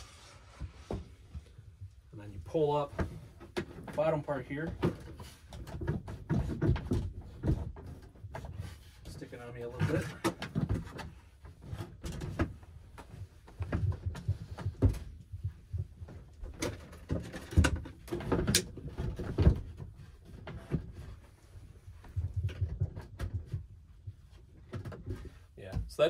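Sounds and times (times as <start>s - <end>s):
wood knocking and scraping on wood: 0.0s - 26.0s.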